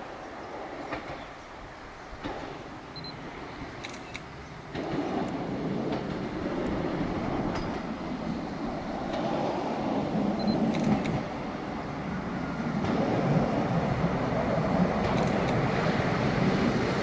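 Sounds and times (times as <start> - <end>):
diesel railcar engine and wheels: 0.0 - 17.0.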